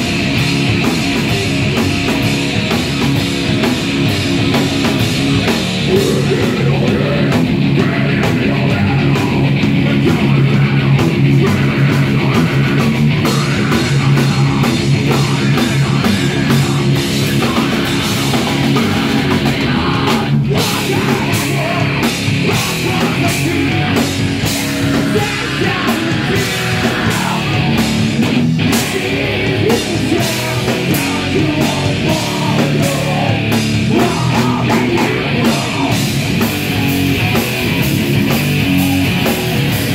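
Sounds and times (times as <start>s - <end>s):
distorted electric guitars: 0.0s - 39.9s
drum kit pounding with cymbals: 0.0s - 39.9s.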